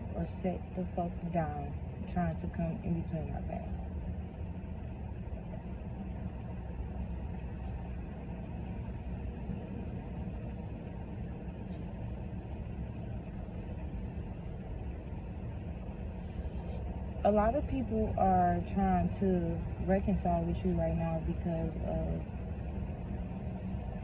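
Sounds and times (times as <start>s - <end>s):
low rumbling noise: 0.0s - 24.0s.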